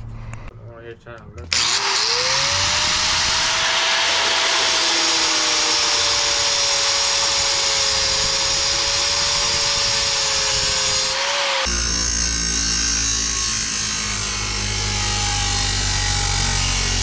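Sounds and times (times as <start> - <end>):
angle grinder cutting metal: 1.5 - 17.0.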